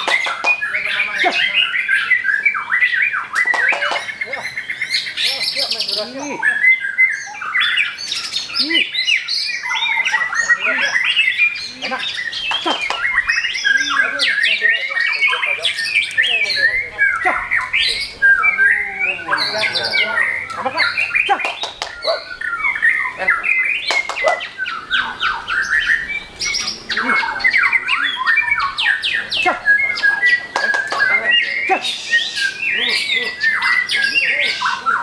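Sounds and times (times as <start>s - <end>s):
songbird singing trills and whistles: 0.0s - 35.0s.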